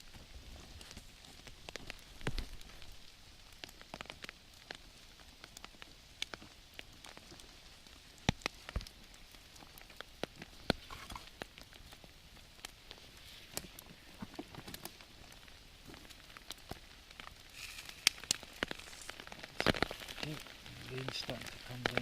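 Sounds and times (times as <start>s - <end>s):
raindrops tapping: 0.0s - 22.0s
steady rain hiss: 0.0s - 22.0s.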